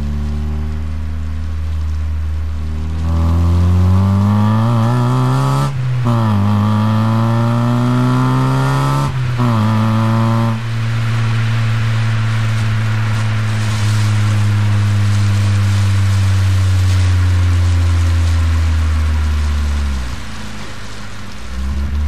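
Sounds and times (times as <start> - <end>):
car engine accelerating through gears: 0.0 - 22.0.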